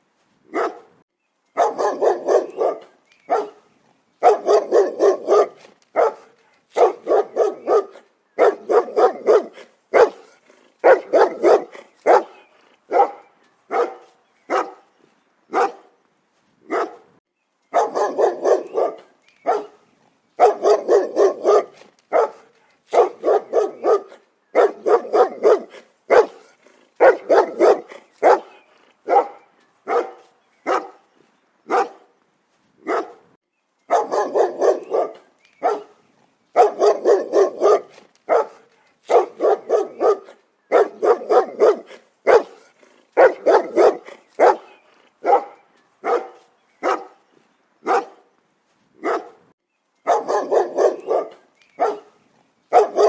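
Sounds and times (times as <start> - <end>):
dog barking deeply: 0.5 - 1.0, 1.6 - 14.9, 15.5 - 15.9, 16.7 - 19.8, 20.4 - 31.0, 31.7 - 32.1, 32.8 - 33.3, 33.9 - 47.2, 47.8 - 48.3, 49.0 - 53.0.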